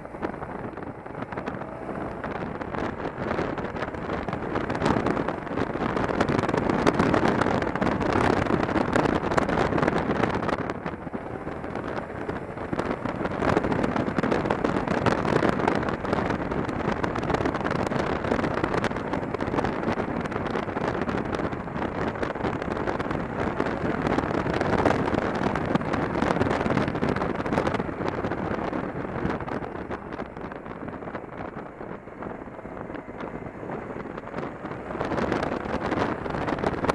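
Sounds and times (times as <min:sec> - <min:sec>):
motorcycle engine running: 0:00.0 - 0:36.9
wind rushing over microphone: 0:00.0 - 0:36.9.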